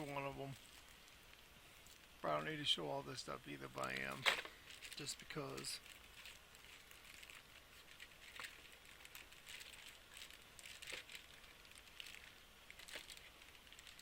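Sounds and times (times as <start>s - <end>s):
plastic bags crinkling: 0.0s - 2.6s, 3.2s - 14.0s.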